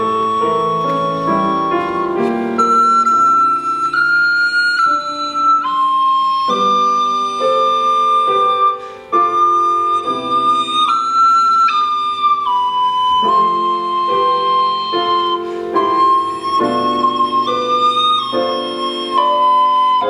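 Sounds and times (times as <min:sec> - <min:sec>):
piano chords: 0:00.0 - 0:20.0
recorder melody: 0:00.0 - 0:20.0.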